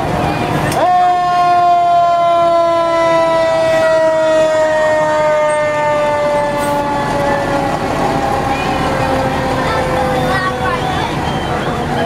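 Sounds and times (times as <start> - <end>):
mechanical siren wail: 0.7 - 12.0.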